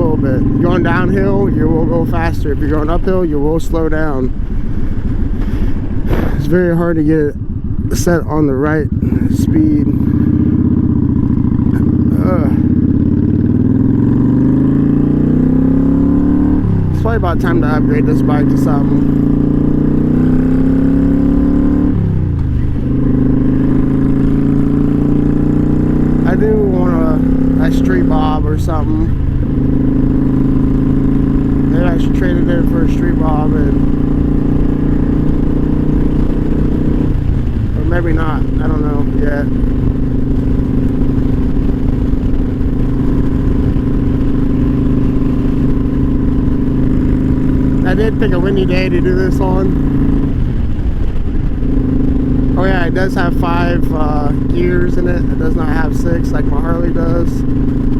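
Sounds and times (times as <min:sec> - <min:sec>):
wind buffeting microphone: 0:00.0 - 0:27.6, 0:28.2 - 0:57.9
motorcycle engine running: 0:00.0 - 0:57.9.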